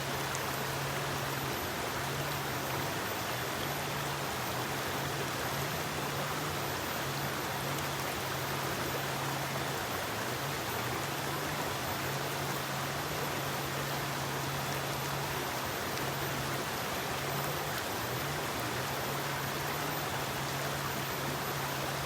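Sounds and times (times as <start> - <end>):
river flowing over rocks: 0.0 - 22.0.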